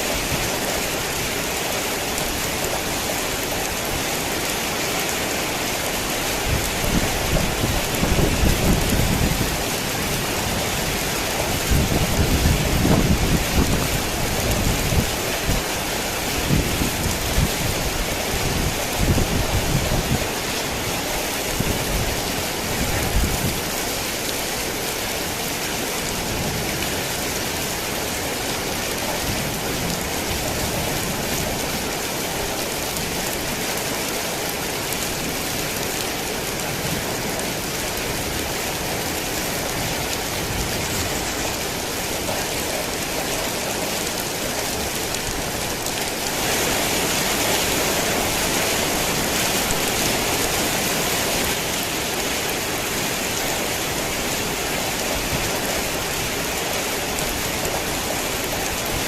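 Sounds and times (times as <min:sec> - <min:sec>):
heavy rain on surfaces: 0:00.0 - 0:59.0.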